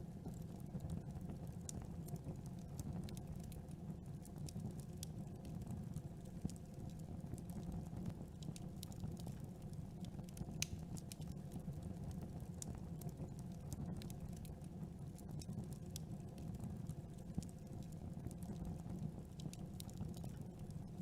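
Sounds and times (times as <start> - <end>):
campfire rumbling: 0.1 - 21.0
wood crackling and popping: 0.1 - 21.0.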